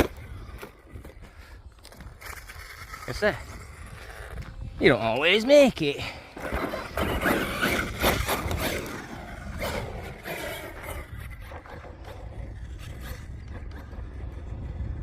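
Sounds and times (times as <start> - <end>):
rc truck tyres scraping dirt: 0.0 - 15.0
wind on microphone: 0.0 - 15.0.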